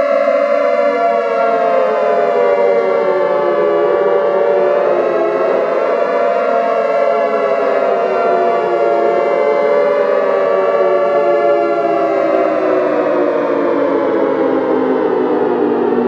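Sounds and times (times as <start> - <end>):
warning siren: 0.0 - 16.0.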